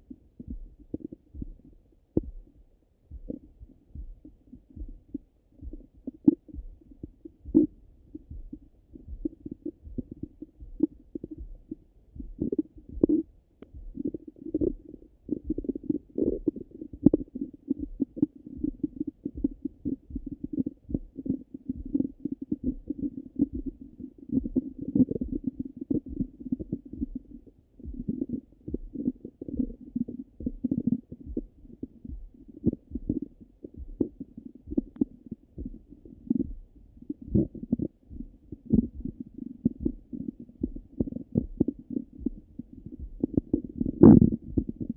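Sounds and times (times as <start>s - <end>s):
stomach gurgling and rumbling: 0.0s - 44.9s.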